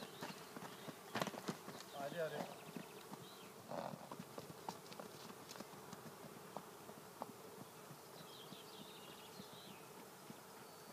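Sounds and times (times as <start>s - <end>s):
faint steady buzzing: 0.0s - 10.9s.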